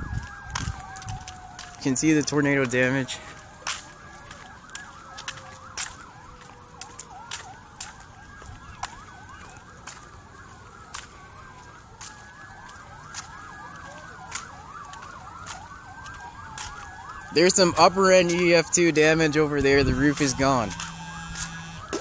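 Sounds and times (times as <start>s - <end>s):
emergency sirens wailing and yelping: 0.0s - 22.0s.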